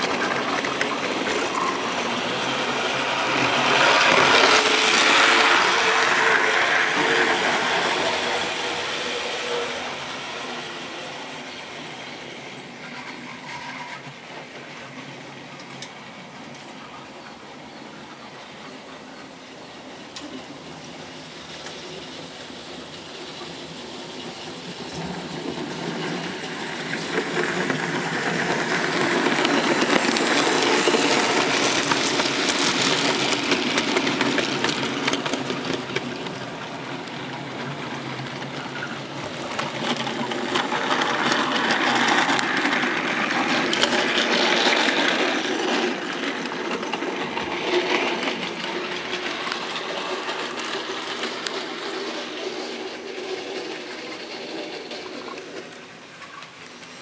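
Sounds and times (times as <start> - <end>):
wheels rattling on rails: 0.0 - 57.0.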